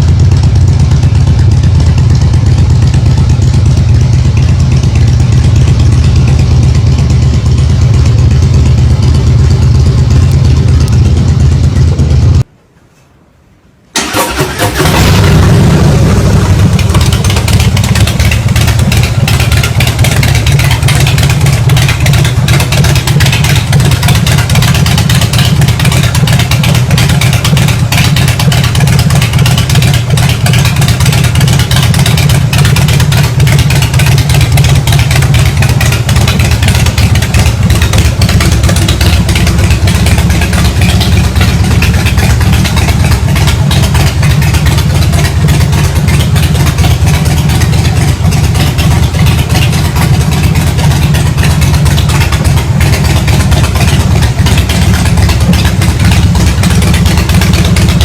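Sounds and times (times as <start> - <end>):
motorcycle exhaust idling: 0.0 - 12.5, 15.0 - 58.0.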